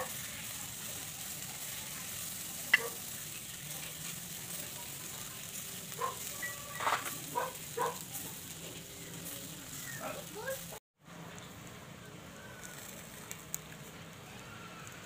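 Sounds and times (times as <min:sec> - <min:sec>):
food sizzling on a grill: 0:00.0 - 0:15.0.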